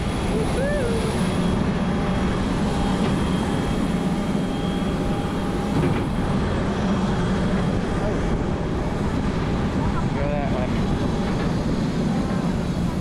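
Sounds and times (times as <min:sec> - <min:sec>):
aircraft engine drone: 0:00.0 - 0:13.0.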